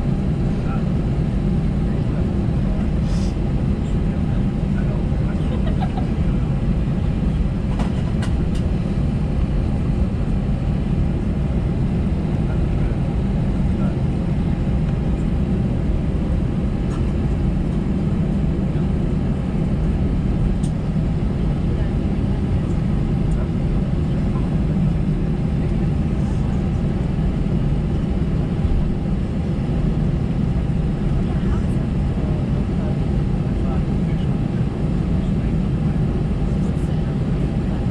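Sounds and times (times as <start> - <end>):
aircraft cabin low rumble: 0.0 - 37.9.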